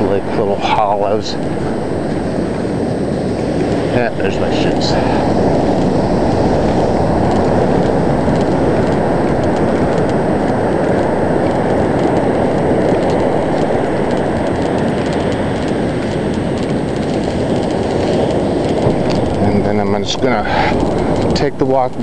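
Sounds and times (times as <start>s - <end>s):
surf on beach: 0.0s - 22.0s
wind: 0.0s - 22.0s.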